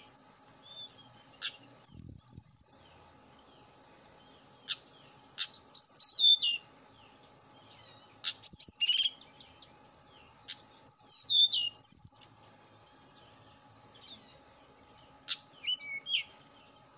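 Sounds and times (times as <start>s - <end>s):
bird singing whistled notes: 0.0s - 12.3s, 12.9s - 16.9s.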